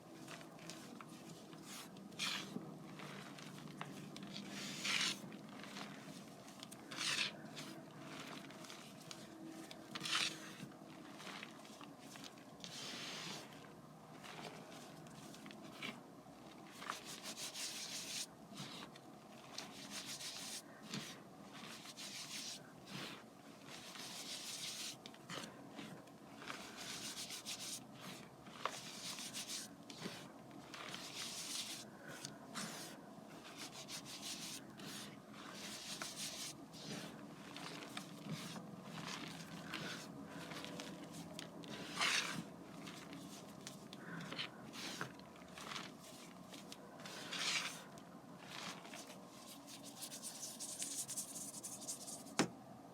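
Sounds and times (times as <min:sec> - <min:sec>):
chalk crumbling by hand: 0:00.1 - 0:52.5
chalk crunch: 0:00.2 - 0:09.3, 0:16.7 - 0:18.9, 0:19.5 - 0:52.5.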